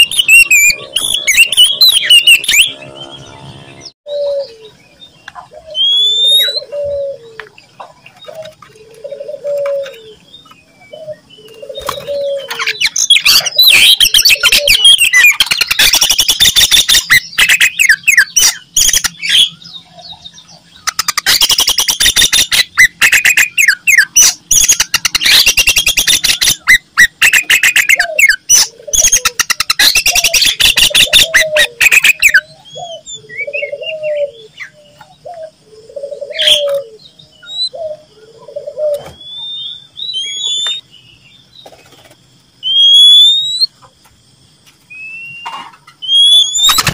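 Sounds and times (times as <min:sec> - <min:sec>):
bird singing rapid chattering: 0:00.0 - 0:07.0, 0:07.8 - 0:43.9, 0:45.0 - 0:46.9.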